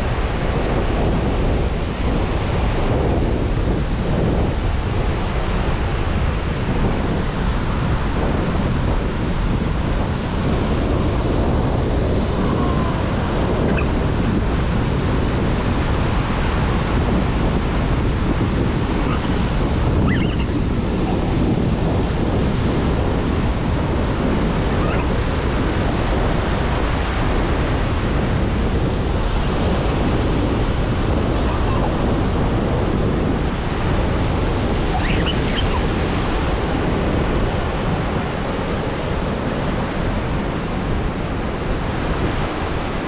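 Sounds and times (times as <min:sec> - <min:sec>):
ocean surf washing onto beach: 0:00.0 - 0:43.0
wind rumbling on microphone: 0:00.0 - 0:43.0.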